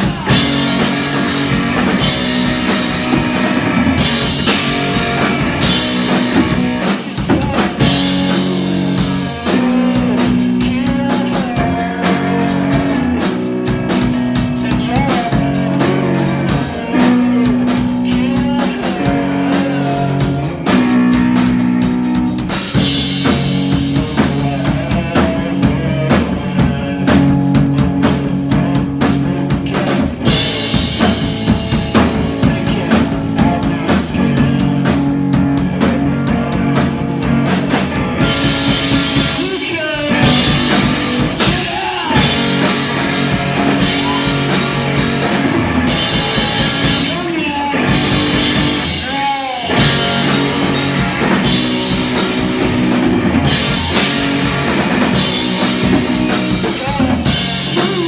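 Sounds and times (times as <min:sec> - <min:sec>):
drums and cymbals: 0:00.0 - 0:58.0
rock band playing live: 0:00.0 - 0:58.0.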